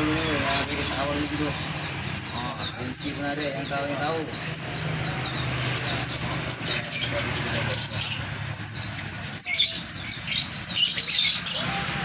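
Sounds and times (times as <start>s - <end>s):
many birds chirping: 0.0s - 12.0s.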